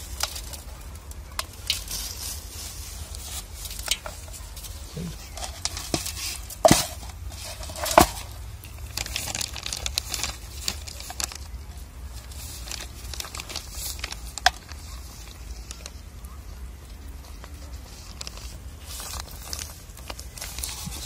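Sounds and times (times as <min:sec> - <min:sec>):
plastic packet crinkling: 0:00.0 - 0:21.0.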